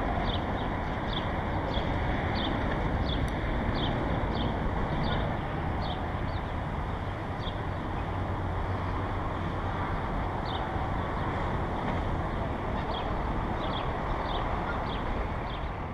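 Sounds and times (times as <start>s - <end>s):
distant traffic: 0.0s - 15.9s
wind on microphone: 0.0s - 15.9s.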